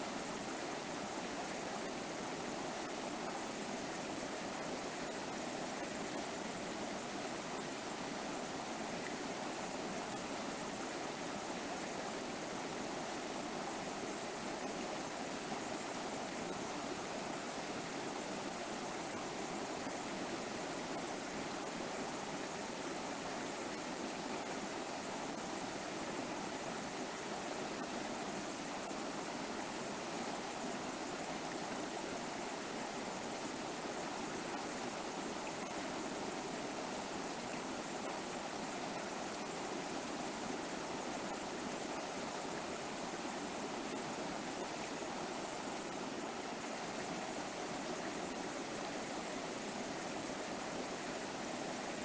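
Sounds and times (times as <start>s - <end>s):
river water flowing over rocks: 0.0s - 52.0s.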